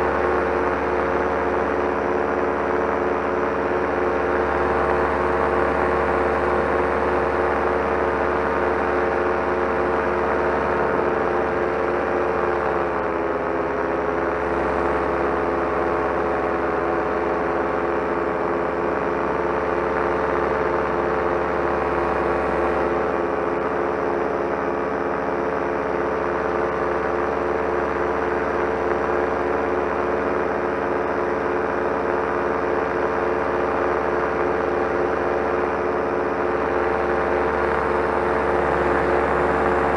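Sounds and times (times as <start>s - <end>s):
paramotor engine running: 0.0s - 39.9s.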